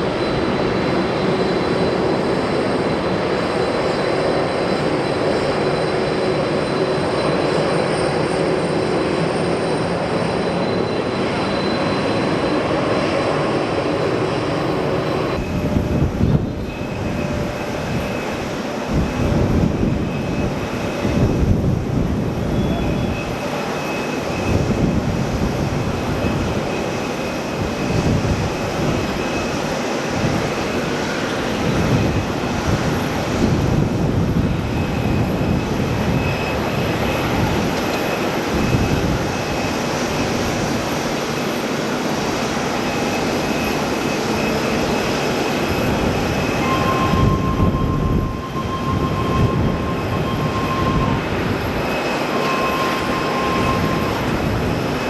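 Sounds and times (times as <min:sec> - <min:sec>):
faint high whine: 0:00.0 - 0:55.0
jet engines rumbling: 0:00.0 - 0:55.0.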